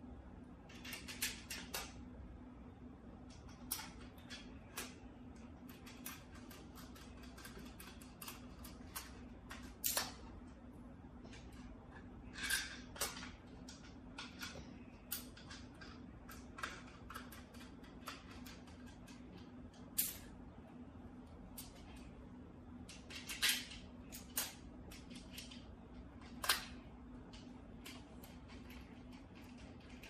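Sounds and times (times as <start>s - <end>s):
faint low hum: 0.0s - 30.0s
screwdriver and parts clicking: 0.7s - 2.0s, 3.3s - 10.3s, 11.4s - 20.3s, 22.8s - 30.0s.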